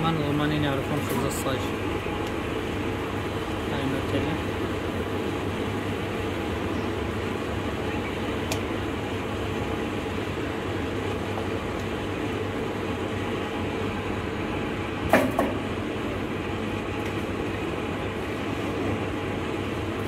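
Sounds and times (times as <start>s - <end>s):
machine hum and rumble: 0.0s - 20.0s.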